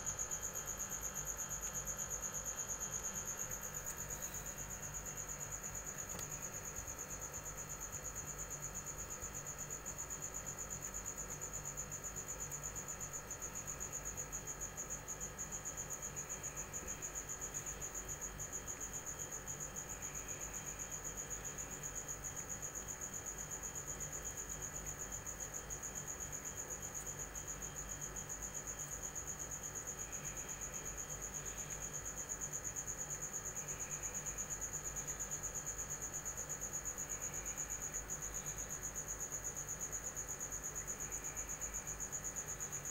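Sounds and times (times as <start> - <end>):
high-pitched insect trill: 0.0 - 42.9.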